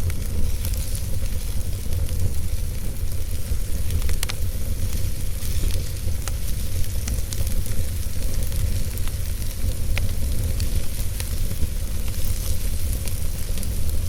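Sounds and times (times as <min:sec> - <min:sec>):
fire crackles and pops: 0:00.0 - 0:14.0
flames rumbling with a hiss: 0:00.0 - 0:14.0.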